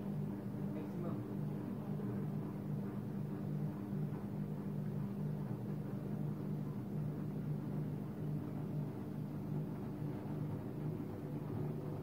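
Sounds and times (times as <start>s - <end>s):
ice cream machine humming: 0.0s - 12.0s.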